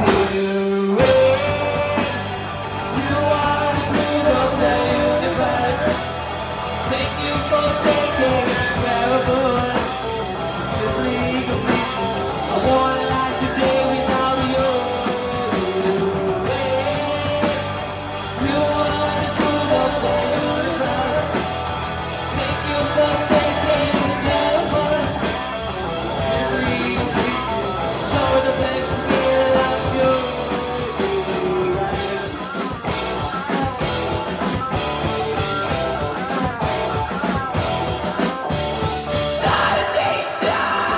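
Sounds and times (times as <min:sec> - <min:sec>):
person singing: 0:00.0 - 0:33.8, 0:39.2 - 0:40.9
guitars: 0:00.0 - 0:40.9
live rock band: 0:00.0 - 0:40.9.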